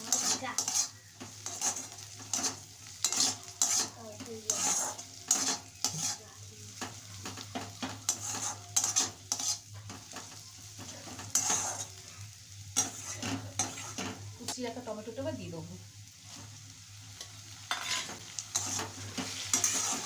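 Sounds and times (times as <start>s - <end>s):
spatula scraping a pan: 0.0s - 12.1s, 12.7s - 14.3s, 17.2s - 20.0s
onions sizzling in oil: 0.0s - 20.0s.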